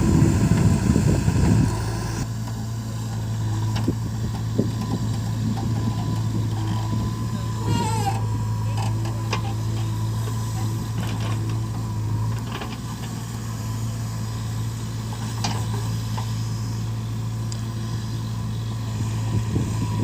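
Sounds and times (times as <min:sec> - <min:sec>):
heavy machinery diesel engine: 0:00.0 - 0:20.0.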